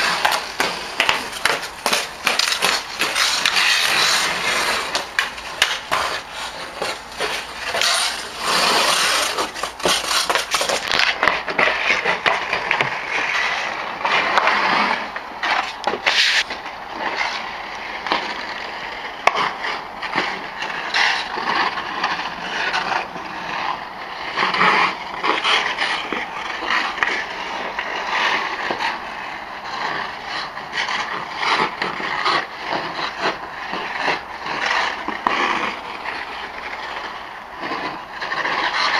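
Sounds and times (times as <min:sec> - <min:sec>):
hockey stick clicking puck: 0:00.0 - 0:29.0, 0:29.6 - 0:38.9
skate blades scraping ice: 0:00.0 - 0:38.9.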